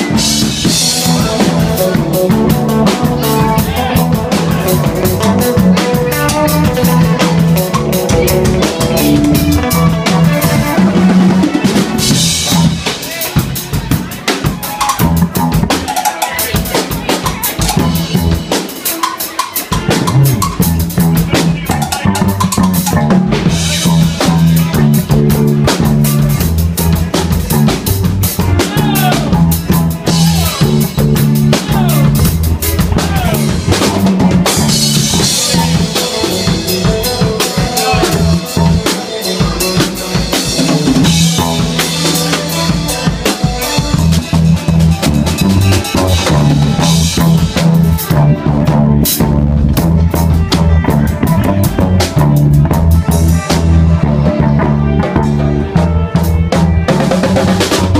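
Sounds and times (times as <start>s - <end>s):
drum kit playing a steady beat: 0.0s - 57.9s
electric bass: 0.0s - 57.9s
electric guitar: 0.0s - 57.9s.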